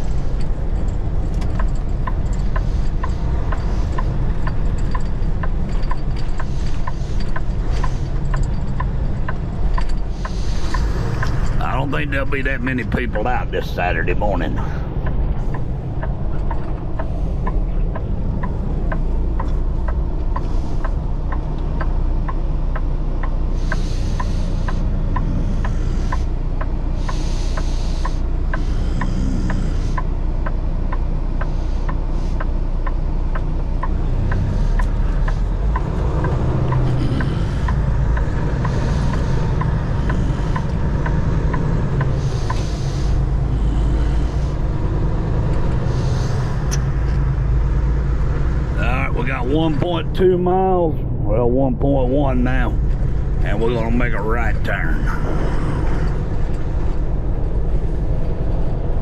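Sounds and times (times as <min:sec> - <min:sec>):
diesel engine rumble: 0:00.0 - 0:59.0.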